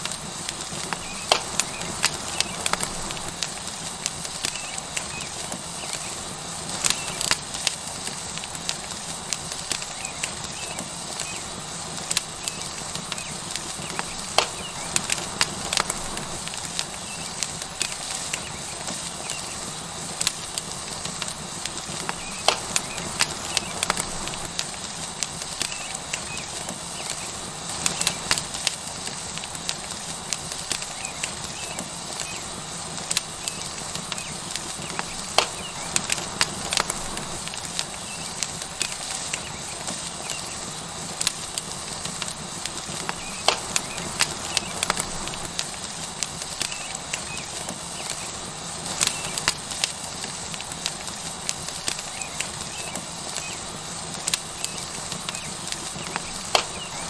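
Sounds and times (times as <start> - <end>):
steak sizzling on hot rock: 0.0 - 57.0
wood fire crackling and popping: 0.0 - 57.0.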